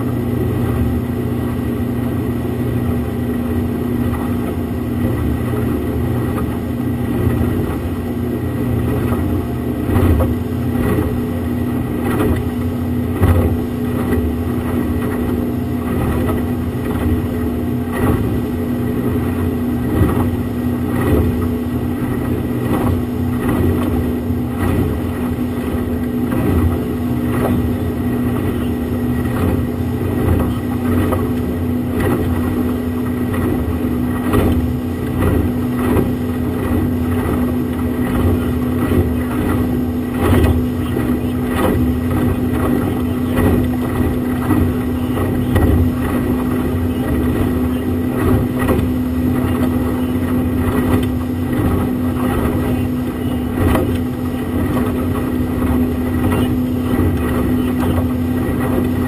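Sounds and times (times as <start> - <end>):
hull knocking on waves: 0.0 - 59.0
outboard motor droning: 0.0 - 59.0
water rushing past hull: 0.0 - 59.0.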